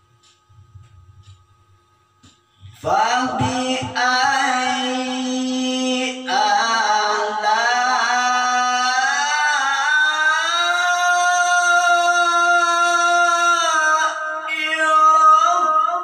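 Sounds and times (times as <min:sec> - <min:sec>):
man reciting melodically: 0:02.6 - 0:16.0.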